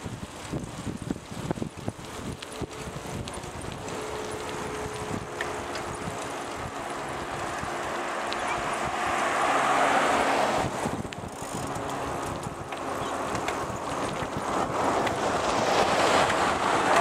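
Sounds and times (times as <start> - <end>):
bicycle tyres rolling on asphalt: 0.0 - 17.0
wind rushing over microphone: 0.0 - 17.0.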